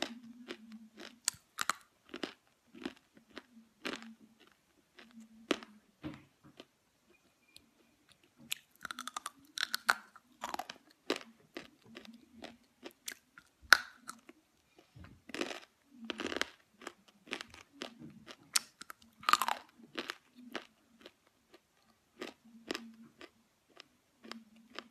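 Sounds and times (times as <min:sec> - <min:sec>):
clay being chewed crunching: 0:00.0 - 0:05.7, 0:07.6 - 0:24.9.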